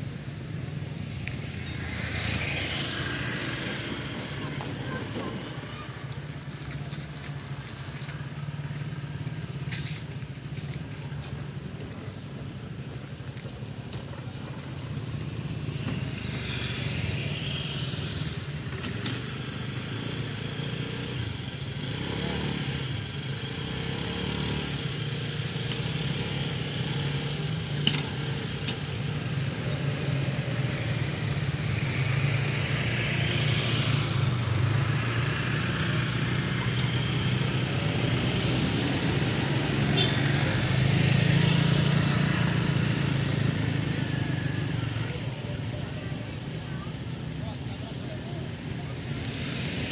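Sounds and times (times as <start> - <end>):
small motorcycle engines: 0.0 - 49.9.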